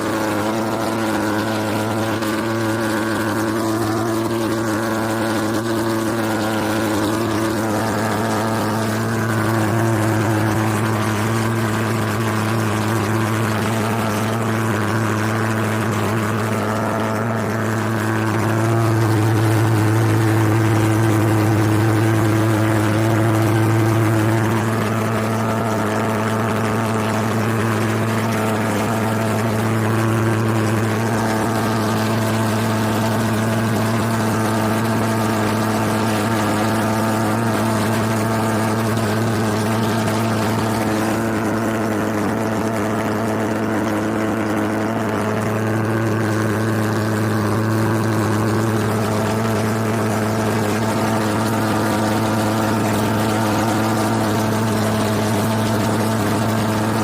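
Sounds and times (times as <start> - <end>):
low mechanical drone: 0.0 - 57.0.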